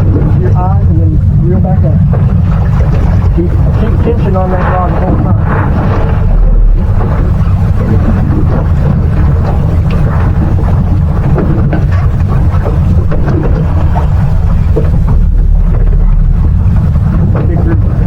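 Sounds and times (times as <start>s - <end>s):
water noise around boat: 0.0s - 18.0s
wind rumble: 0.0s - 18.0s.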